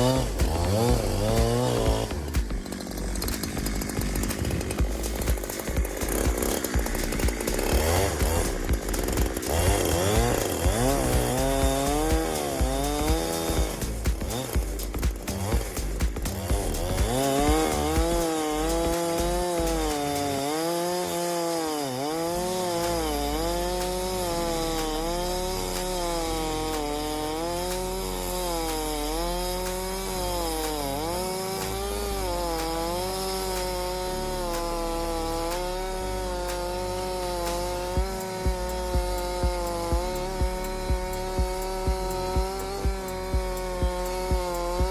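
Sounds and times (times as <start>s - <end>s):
chainsaw ripping log: 0.0s - 44.9s.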